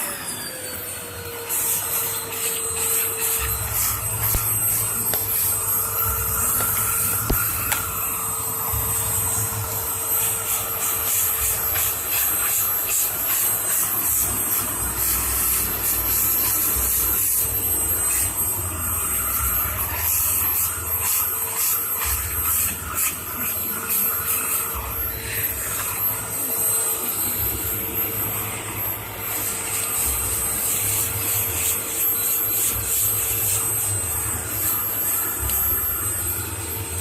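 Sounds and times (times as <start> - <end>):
vacuum cleaner running: 0.0 - 37.0.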